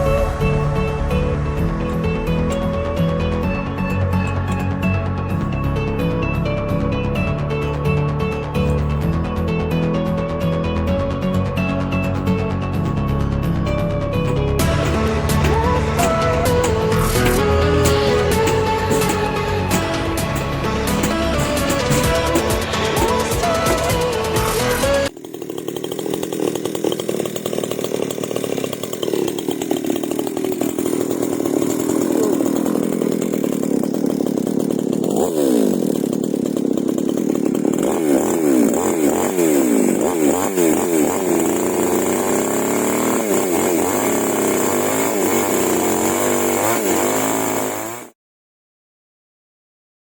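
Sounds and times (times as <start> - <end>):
chainsaw revving: 0.0 - 48.2.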